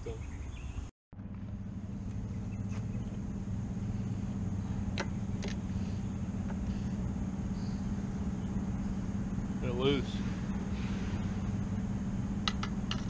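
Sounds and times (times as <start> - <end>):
low mechanical hum: 0.8 - 13.0.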